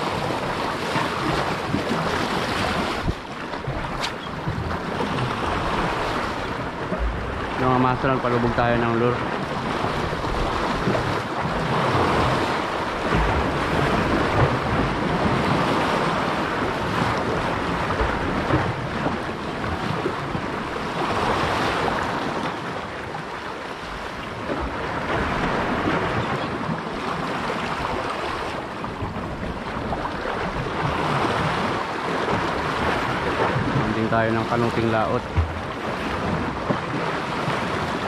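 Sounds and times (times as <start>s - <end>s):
sea waves washing on shore: 0.0s - 38.0s
wind buffeting microphone: 0.0s - 38.0s.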